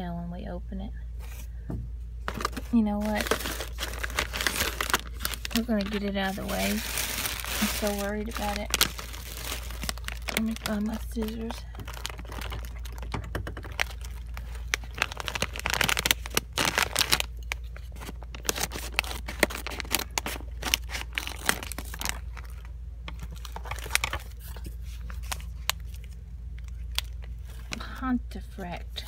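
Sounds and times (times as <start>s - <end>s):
steady low hum: 0.0s - 29.0s
plastic packet crinkling and tearing: 2.3s - 28.0s.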